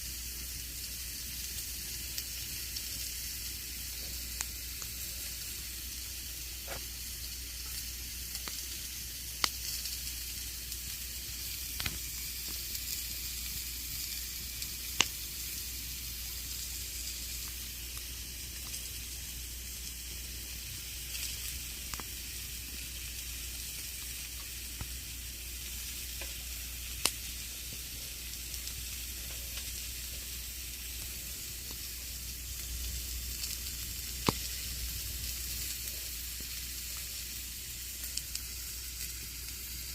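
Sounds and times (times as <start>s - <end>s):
campfire hissing: 0.0s - 39.9s
fire crackles and pops: 0.0s - 39.9s.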